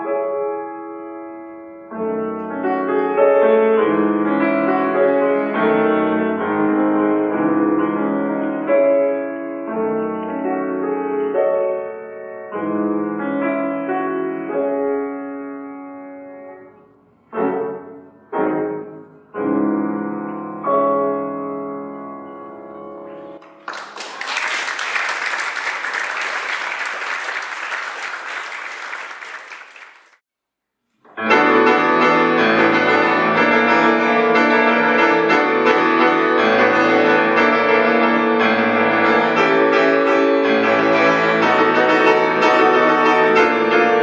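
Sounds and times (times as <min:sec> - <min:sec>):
grand piano classical piece: 0:00.0 - 0:30.0, 0:31.1 - 0:44.0.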